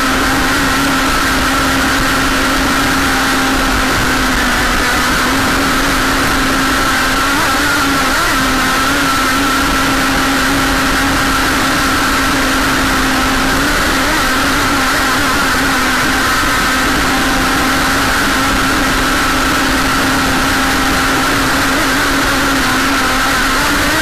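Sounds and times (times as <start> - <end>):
model boat motor running: 0.0 - 24.0.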